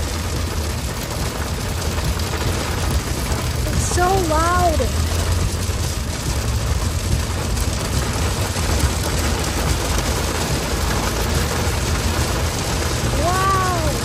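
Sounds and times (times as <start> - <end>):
car low rumble: 0.0 - 14.0
heavy rain drumming on car roof: 0.0 - 14.0.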